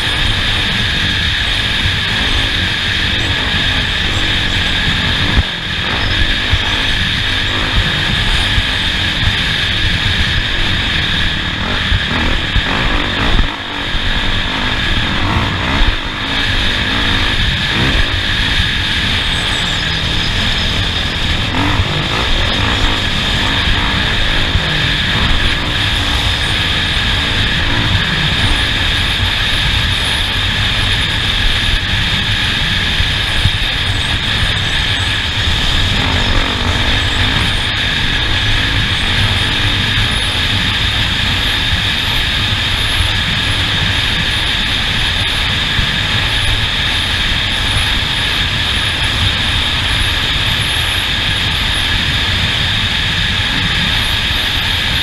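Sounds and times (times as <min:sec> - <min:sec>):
low rumble: 0:00.0 - 0:54.8
steady motor hum: 0:00.0 - 0:55.0.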